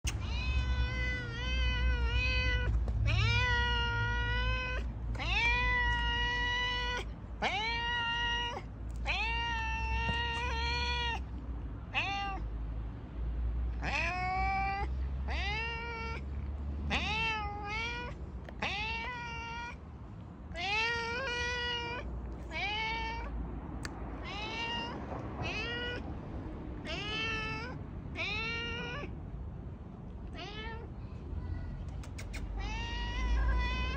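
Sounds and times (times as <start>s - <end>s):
cat meowing loudly: 0.0s - 11.3s, 11.9s - 12.5s, 13.7s - 16.3s, 16.9s - 19.8s, 20.5s - 26.1s, 26.8s - 29.2s, 30.3s - 30.9s, 32.0s - 33.9s.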